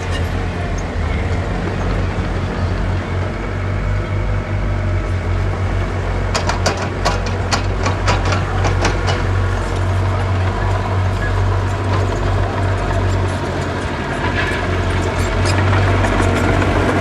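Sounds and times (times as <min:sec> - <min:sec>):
diesel machinery engine humming: 0:00.0 - 0:17.0.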